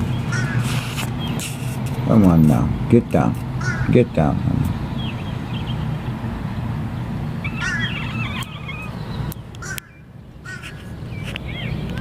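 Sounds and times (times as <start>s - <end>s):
high wavering chirping calls: 0.0s - 1.8s, 2.6s - 12.0s
steady low hum: 0.0s - 12.0s.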